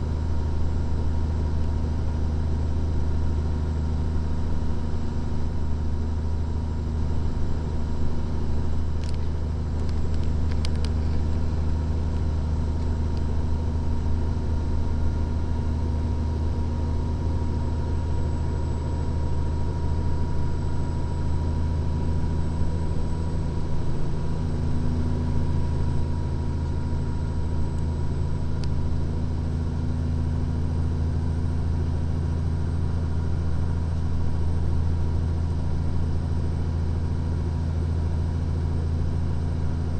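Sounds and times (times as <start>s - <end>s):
diesel engine and road noise drone: 0.0s - 39.9s.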